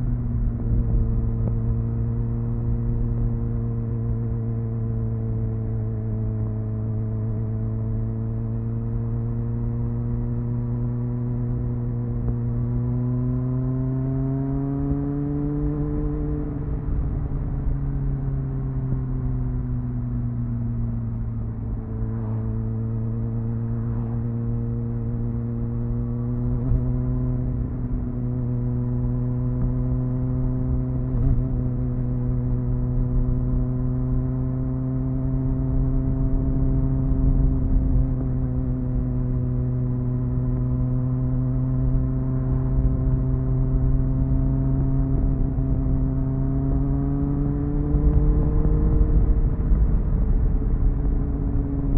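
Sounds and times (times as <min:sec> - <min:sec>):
low wind rumble: 0:00.0 - 0:51.9
motorcycle engine cruising: 0:00.0 - 0:51.9.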